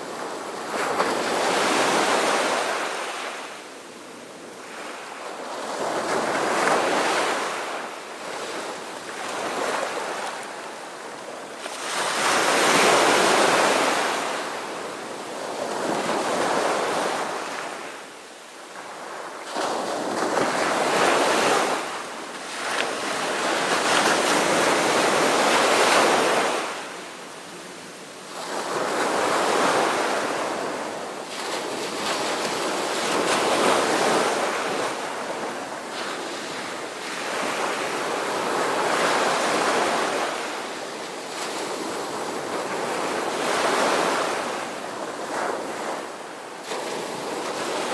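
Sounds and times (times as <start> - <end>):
ocean waves rolling in: 0.0 - 47.9.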